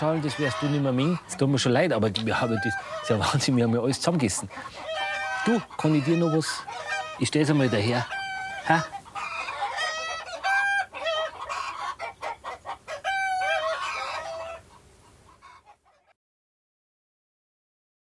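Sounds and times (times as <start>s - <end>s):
hens clucking and squawking: 0.0s - 16.2s.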